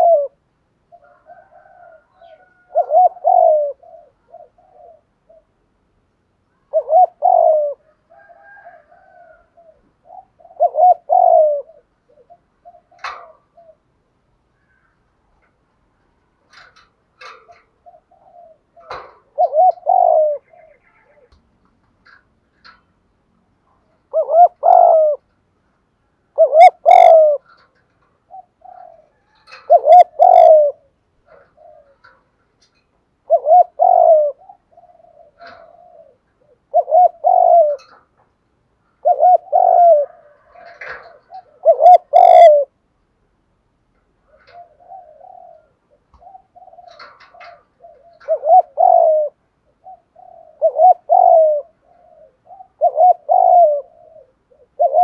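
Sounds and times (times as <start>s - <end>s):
dove cooing: 0.0s - 38.2s, 38.8s - 43.0s, 43.9s - 55.0s.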